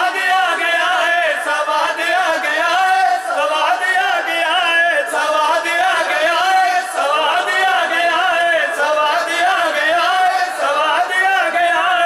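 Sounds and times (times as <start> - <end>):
men singing through loudspeakers: 0.0 - 12.0.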